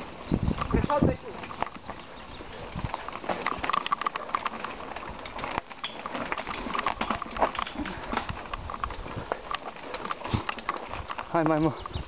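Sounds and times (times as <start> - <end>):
bike rattling over rough trail: 0.0 - 12.0.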